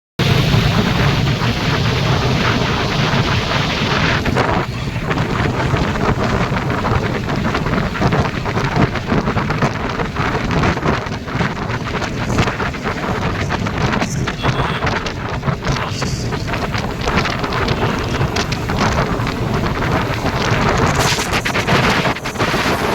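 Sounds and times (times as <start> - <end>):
motorcycle engine running low: 0.2 - 22.9
rain striking microphone: 0.2 - 22.9
wind rushing: 0.2 - 22.9.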